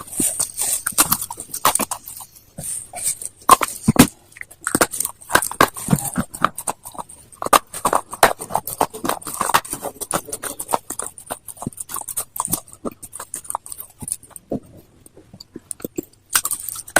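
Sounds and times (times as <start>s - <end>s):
stone being chewed: 0.0s - 16.9s.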